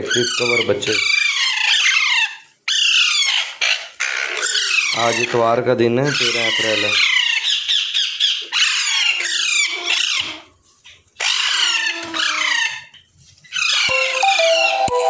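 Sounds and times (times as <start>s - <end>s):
parakeet chicks squawking: 0.0s - 14.8s.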